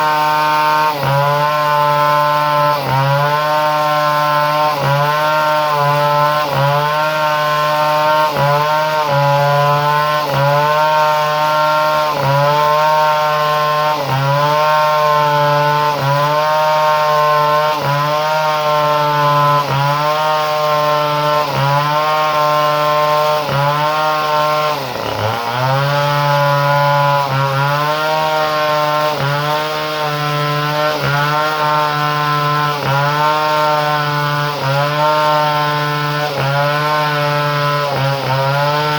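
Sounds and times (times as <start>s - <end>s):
chainsaw engine running fast: 0.0s - 38.9s.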